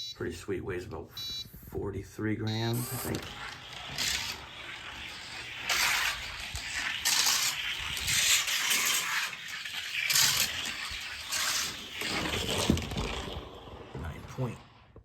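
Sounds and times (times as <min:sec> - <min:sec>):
toy car rolling down track: 0:02.6 - 0:14.9.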